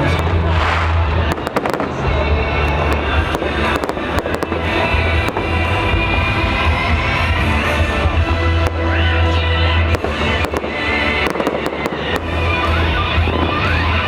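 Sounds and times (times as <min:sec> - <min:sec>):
fireworks bangs and crackles: 0:00.0 - 0:14.0
loud music with heavy bass: 0:00.0 - 0:14.0.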